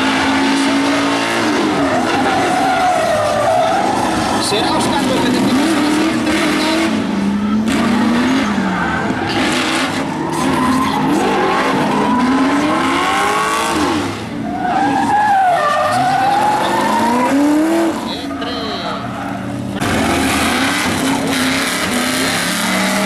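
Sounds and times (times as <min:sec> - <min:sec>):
car engines revving hard: 0:00.0 - 0:23.0
tyres squealing: 0:00.0 - 0:23.0.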